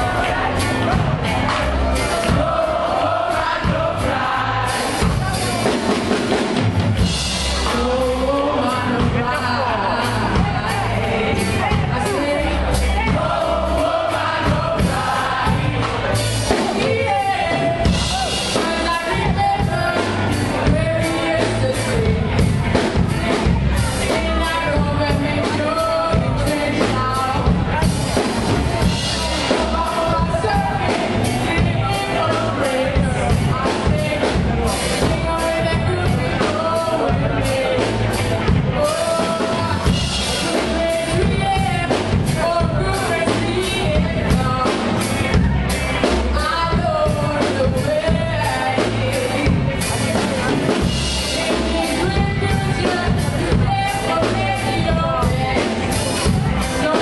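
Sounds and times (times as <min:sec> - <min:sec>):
bass guitar: 0:00.0 - 0:57.0
steady drum beat: 0:00.0 - 0:57.0
person singing: 0:07.4 - 0:57.0.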